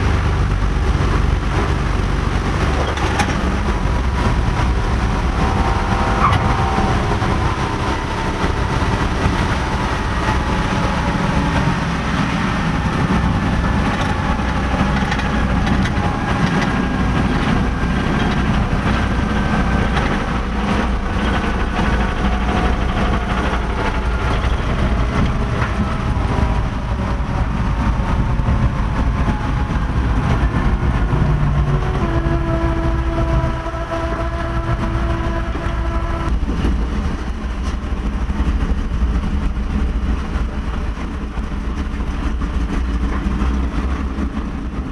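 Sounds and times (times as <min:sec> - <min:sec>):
aircraft engines rumbling: 0:00.0 - 0:44.9.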